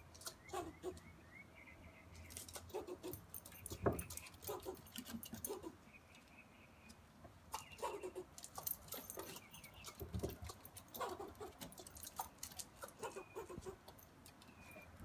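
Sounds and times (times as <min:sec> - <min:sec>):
squirrel clicking and chirping: 0:00.0 - 0:01.2, 0:02.0 - 0:15.0.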